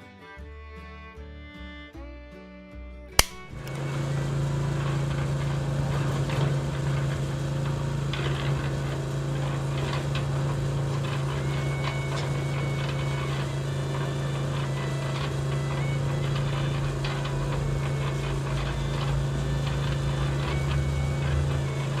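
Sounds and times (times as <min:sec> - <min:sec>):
clicks and rattles: 0:03.2 - 0:22.0
small motor humming: 0:03.2 - 0:22.0.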